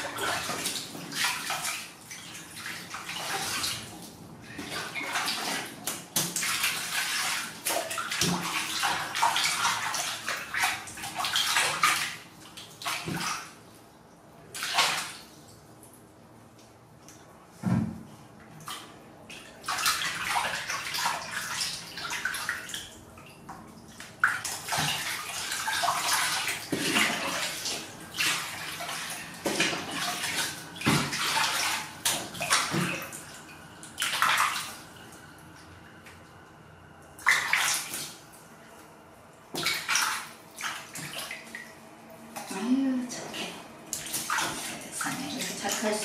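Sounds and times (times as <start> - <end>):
water sloshing in a plastic basin: 0.0 - 46.0.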